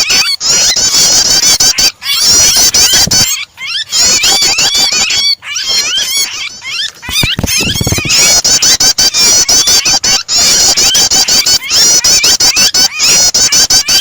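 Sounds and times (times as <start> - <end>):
bird chirps and trills: 0.0 - 14.0
bird screeching in distress: 0.0 - 14.0.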